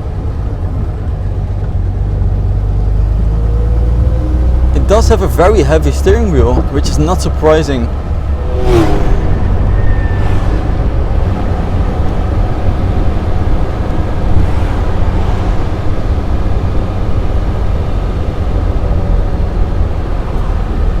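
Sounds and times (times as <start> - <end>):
car engine rumbling: 0.0 - 21.0
road noise: 0.0 - 21.0.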